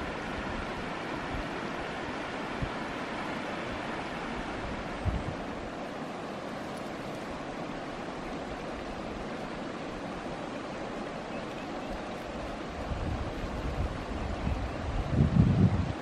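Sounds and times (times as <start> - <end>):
river running over stones: 0.0 - 16.0.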